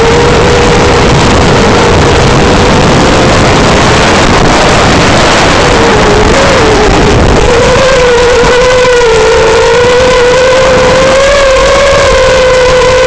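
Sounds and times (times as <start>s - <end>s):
quadcopter motors whining: 0.0s - 13.0s
wind noise on microphone: 0.0s - 13.0s.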